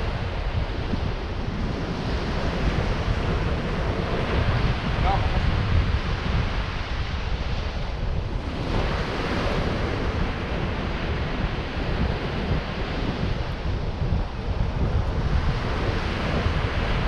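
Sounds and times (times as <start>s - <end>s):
surf breaking on a beach: 0.0s - 17.0s
wind buffeting the microphone: 0.0s - 17.0s.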